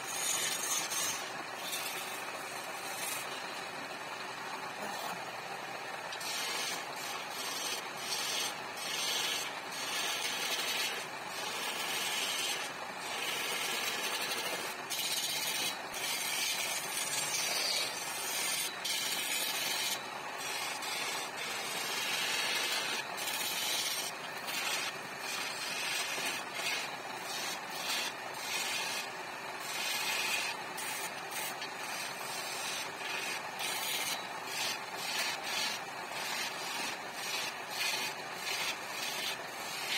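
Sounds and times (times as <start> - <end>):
chisel scraping spinning wood: 0.0 - 39.9
wood lathe running: 0.0 - 39.9.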